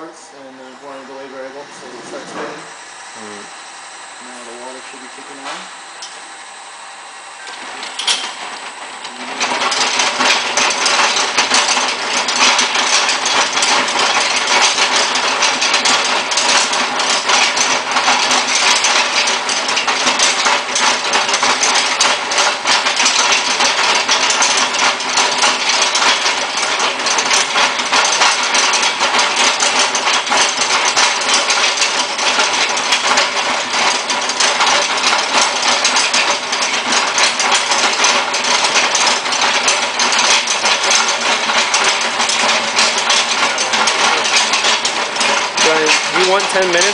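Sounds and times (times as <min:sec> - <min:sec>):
electric drill motor spinning: 0:00.0 - 0:46.9
drill bit grinding rock: 0:00.6 - 0:46.9.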